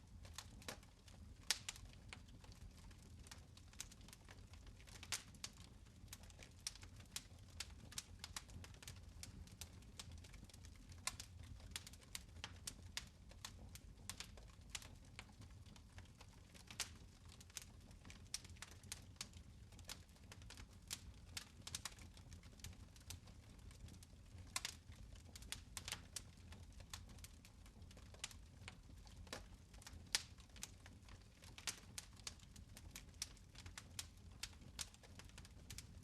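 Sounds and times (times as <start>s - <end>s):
fire crackling and popping: 0.0s - 36.0s
low rumble of flames: 0.0s - 36.0s.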